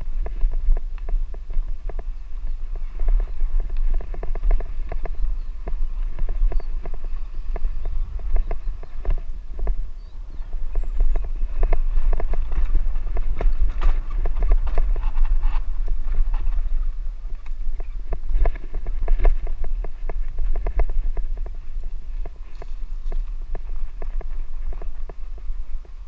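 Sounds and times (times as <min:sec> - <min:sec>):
bike rattling and knocking: 0:00.0 - 0:26.0
wind buffeting microphone: 0:00.0 - 0:26.0.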